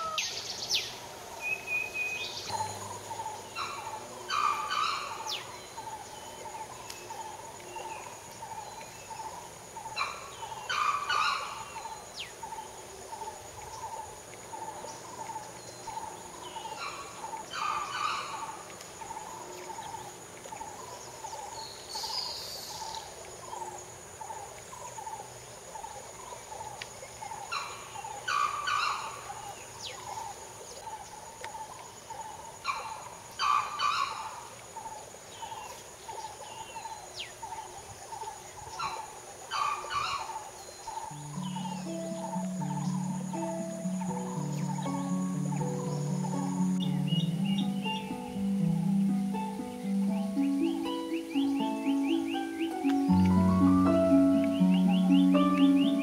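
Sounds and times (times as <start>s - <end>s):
bird calling: 0.0s - 24.4s, 32.6s - 56.0s
high insect drone: 0.0s - 56.0s.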